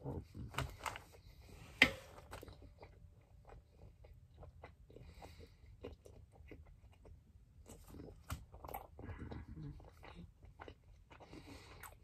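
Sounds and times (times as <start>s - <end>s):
faint chewing crunches: 0.0s - 12.0s.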